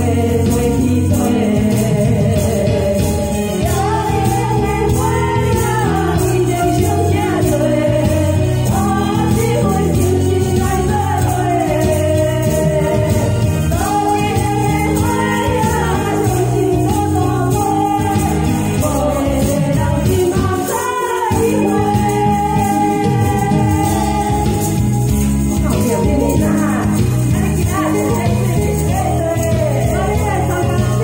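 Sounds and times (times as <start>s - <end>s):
backing track: 0.0s - 31.0s
tambourines shaking: 0.0s - 31.0s
two women singing: 0.0s - 31.0s.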